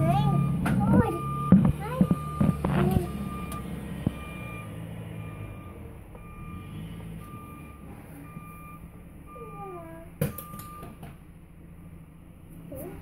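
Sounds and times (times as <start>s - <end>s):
reverse alarm beeping: 0.0s - 11.0s
vehicle engine running low: 0.0s - 13.0s.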